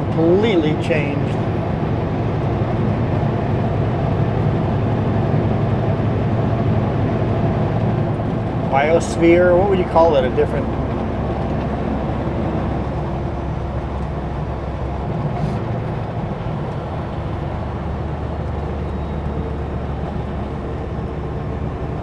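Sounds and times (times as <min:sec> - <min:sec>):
road noise: 0:00.0 - 0:22.0
truck diesel engine drone: 0:00.0 - 0:22.0.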